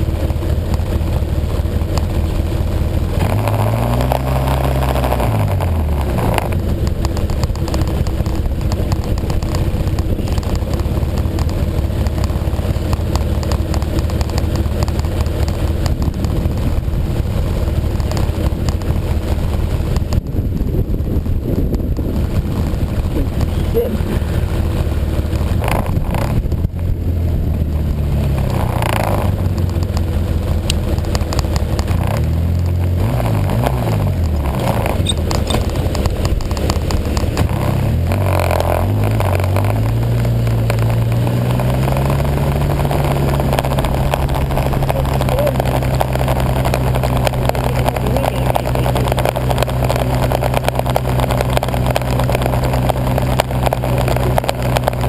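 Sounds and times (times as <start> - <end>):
constant rushing noise: 0.0 - 55.0
snowmobile engine: 0.0 - 55.0.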